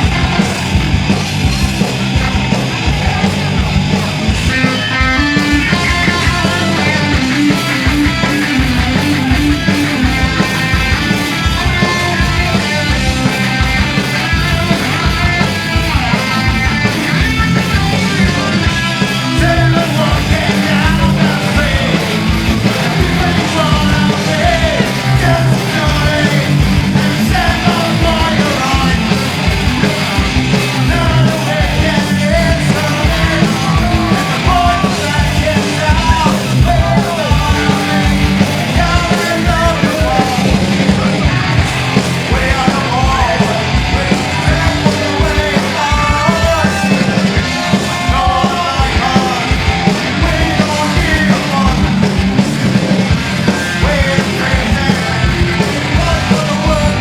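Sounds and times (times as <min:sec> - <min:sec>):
fast drumming: 0:00.0 - 0:57.0
punk band playing live: 0:00.0 - 0:57.0
shouted singing: 0:00.0 - 0:57.0.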